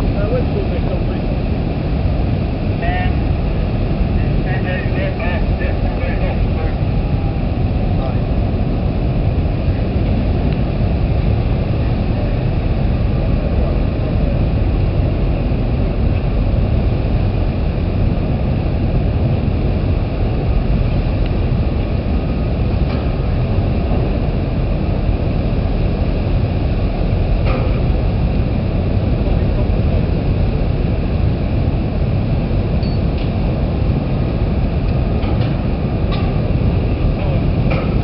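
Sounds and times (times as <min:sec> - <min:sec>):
propeller wash churning: 0:00.0 - 0:38.0
ship engines rumbling: 0:00.0 - 0:38.0.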